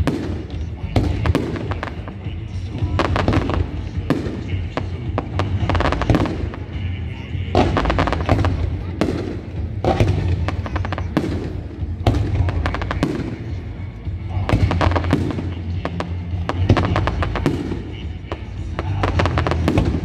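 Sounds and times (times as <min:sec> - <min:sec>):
fireworks crackling pops and bangs: 0:00.0 - 0:20.0
steady low rumble: 0:00.0 - 0:20.0.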